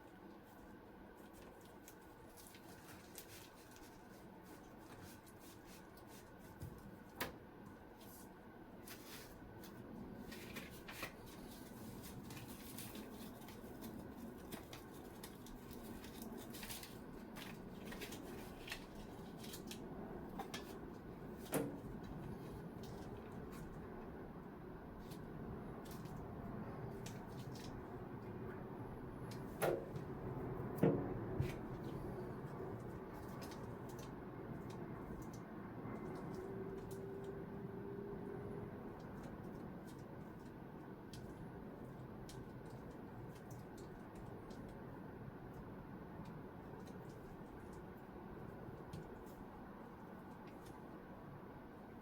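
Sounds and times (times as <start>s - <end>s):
low background hum: 0.0s - 52.0s.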